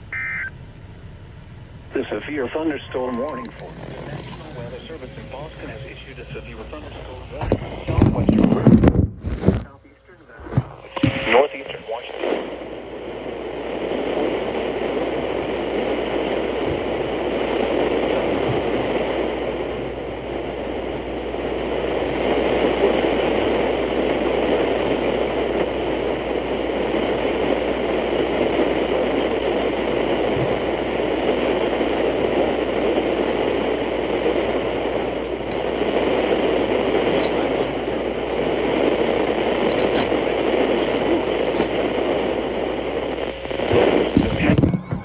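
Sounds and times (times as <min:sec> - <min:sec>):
radio static hiss: 0:01.9 - 0:45.0.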